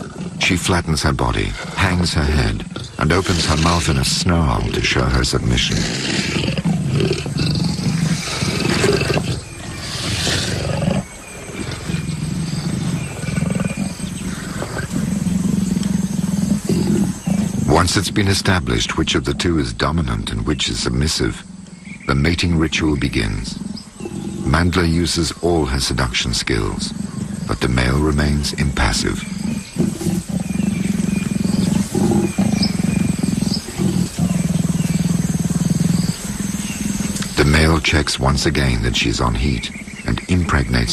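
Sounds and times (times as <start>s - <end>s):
hissing snarl: 0.0s - 21.6s, 22.2s - 40.9s
faint insect chirps: 0.0s - 40.9s
leopards growling: 0.0s - 40.9s.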